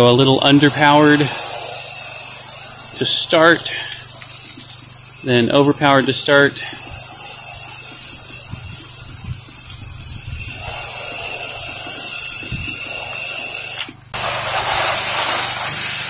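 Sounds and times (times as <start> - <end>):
low machine hum: 0.0 - 14.8
pressure washer spray hiss: 0.0 - 16.0.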